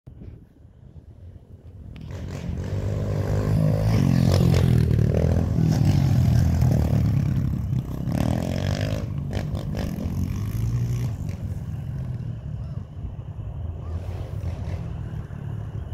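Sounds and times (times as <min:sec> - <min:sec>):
dirt bike engine passing: 0:02.0 - 0:12.8, 0:13.8 - 0:15.9.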